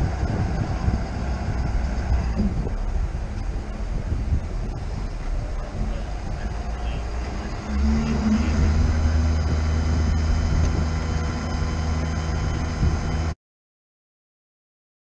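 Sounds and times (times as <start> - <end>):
truck engine running: 0.0 - 13.4.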